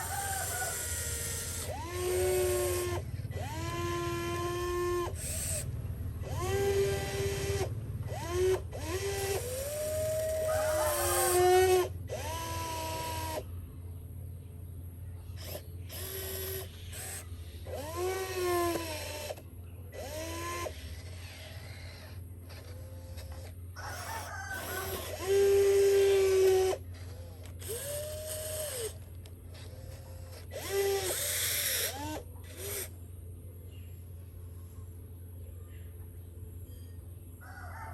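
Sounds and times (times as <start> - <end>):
gear grinding: 0.0 - 13.4, 15.4 - 32.9
small electric motors whining: 0.0 - 13.5, 15.3 - 33.0
steady low hum: 0.0 - 37.9.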